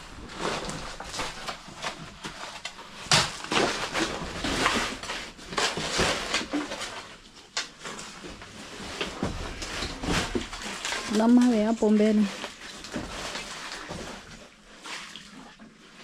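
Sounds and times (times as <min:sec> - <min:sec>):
scraping and crunching strokes: 0:00.0 - 0:15.4.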